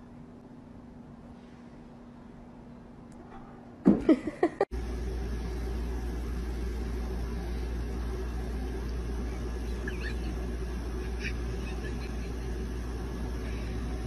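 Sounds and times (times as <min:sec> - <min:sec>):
low rumbling hum: 0:00.0 - 0:14.0.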